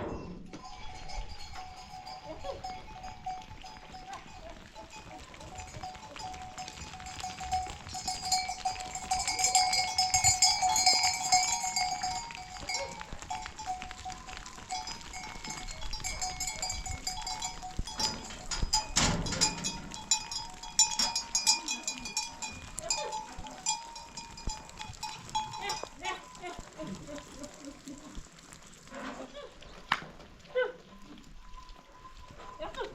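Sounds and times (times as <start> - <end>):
sheep bells clanking: 0.0 - 28.6.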